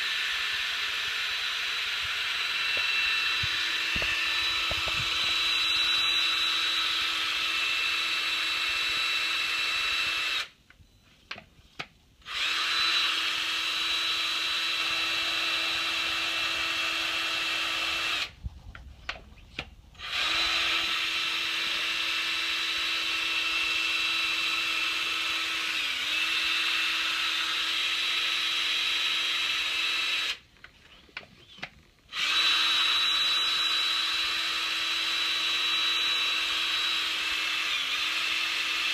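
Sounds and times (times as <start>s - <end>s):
small electric motor whining: 0.0s - 10.6s, 12.2s - 18.4s, 19.0s - 30.4s, 31.0s - 38.9s.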